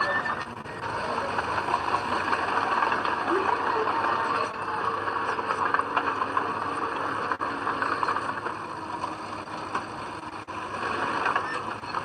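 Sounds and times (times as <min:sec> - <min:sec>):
heavy machinery droning: 0:00.0 - 0:12.0.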